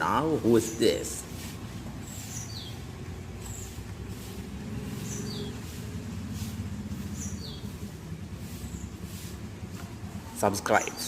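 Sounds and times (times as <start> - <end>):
steady low rumble: 1.2 - 10.4.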